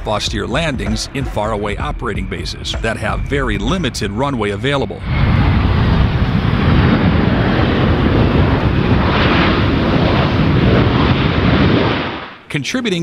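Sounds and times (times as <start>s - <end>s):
jet engines rumbling: 0.0s - 12.6s.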